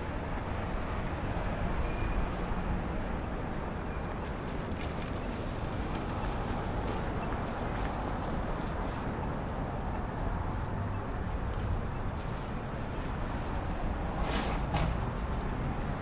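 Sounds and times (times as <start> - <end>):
traffic rumble of cars and buses: 0.0 - 16.0.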